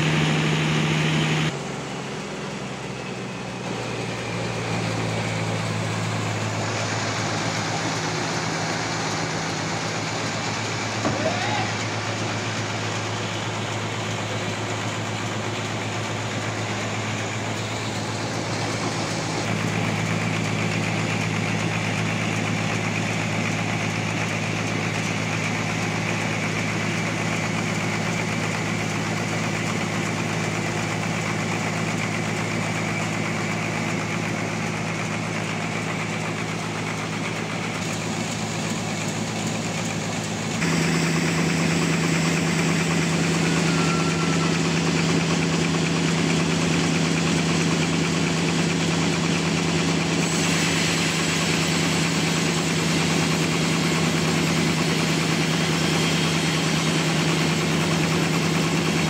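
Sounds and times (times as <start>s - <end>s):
sawmill engine droning: 0.0s - 59.0s.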